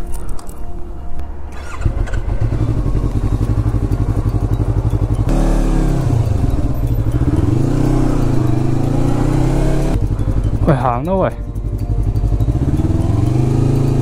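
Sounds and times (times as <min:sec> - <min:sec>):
motorcycle engine running: 0:01.6 - 0:14.0.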